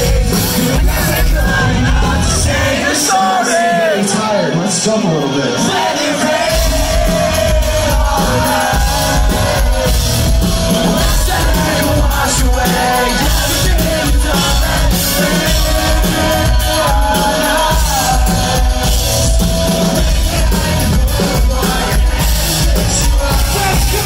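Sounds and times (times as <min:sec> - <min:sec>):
bass and kick drum: 0:00.0 - 0:02.7, 0:06.5 - 0:24.0
live pop-punk band: 0:00.0 - 0:04.1, 0:05.6 - 0:24.0
held vocal line: 0:00.0 - 0:04.6, 0:05.3 - 0:24.0
crowd shouting along: 0:00.0 - 0:24.0.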